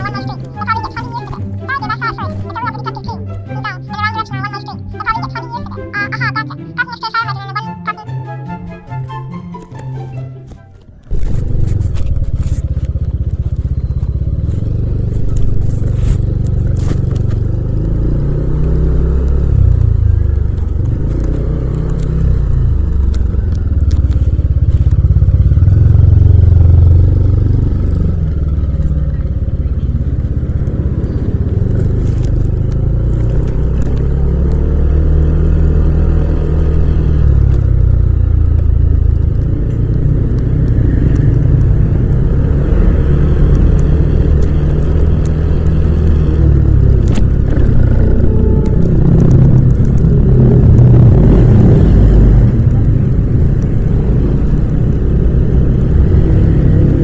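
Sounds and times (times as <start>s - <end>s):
scooter engine revving: 10.8s - 57.0s.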